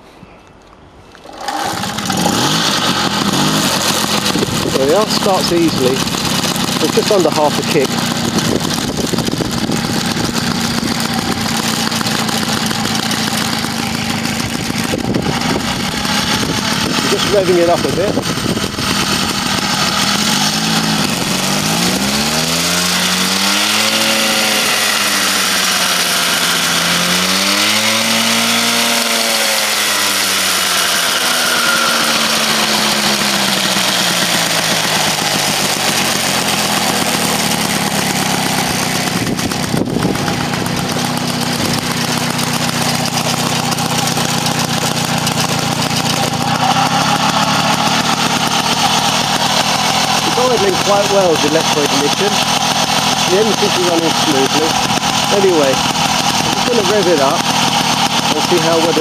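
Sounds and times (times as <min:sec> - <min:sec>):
two-stroke moped engine revving: 0:01.1 - 0:59.0.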